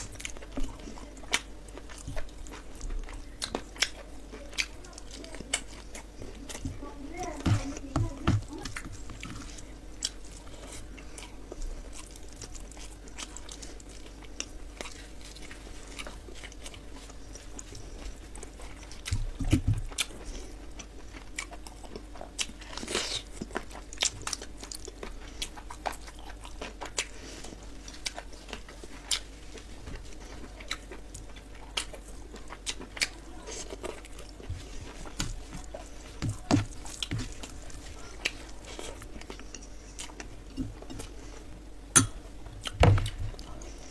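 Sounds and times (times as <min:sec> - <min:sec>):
wet chewing and mouth smacks: 0:00.0 - 0:06.7, 0:08.6 - 0:43.9.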